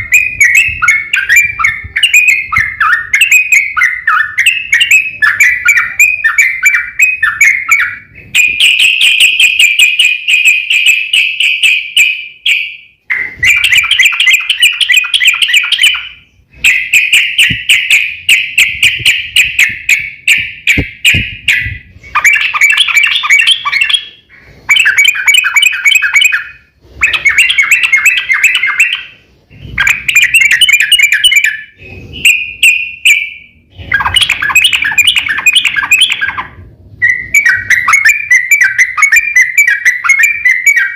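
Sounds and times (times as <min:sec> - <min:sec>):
bird singing rapid chattering trills: 0:00.0 - 0:29.1, 0:29.8 - 0:40.9.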